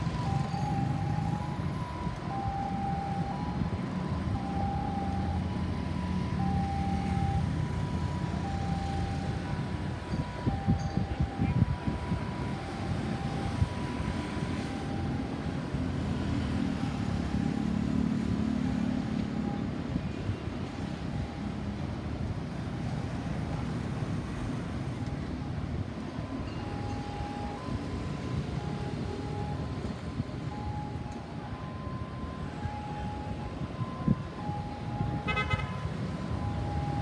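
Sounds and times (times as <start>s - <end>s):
vehicles passing with a rumble: 0.0s - 37.0s.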